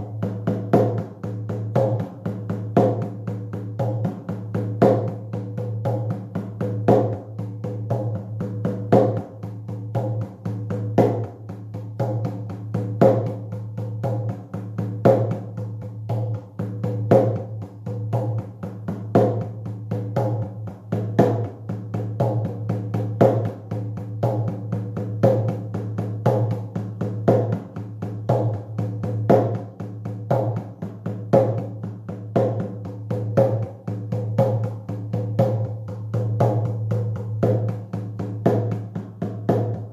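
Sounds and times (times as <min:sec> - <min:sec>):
fast drum beat: 0:00.0 - 0:39.9.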